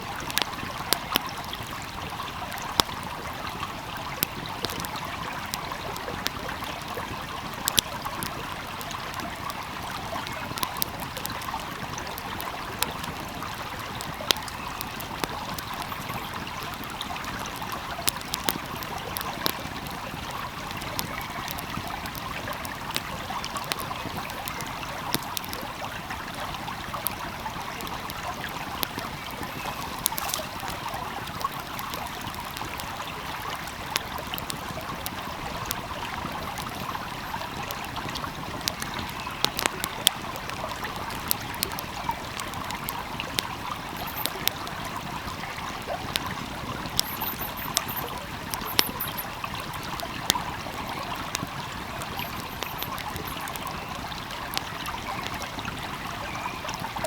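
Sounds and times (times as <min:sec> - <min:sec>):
wood fire crackling: 0:00.0 - 0:56.1
stream rushing and burbling: 0:00.0 - 0:57.0.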